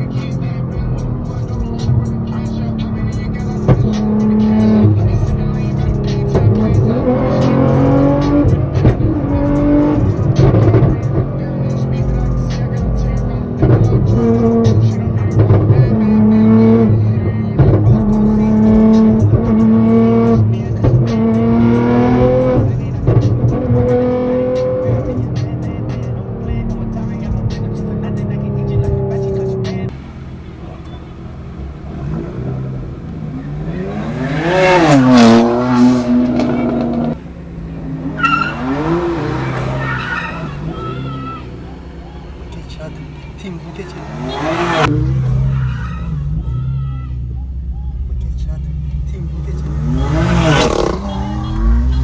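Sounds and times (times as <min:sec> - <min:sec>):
sports car exhaust revving: 0:00.0 - 0:52.0.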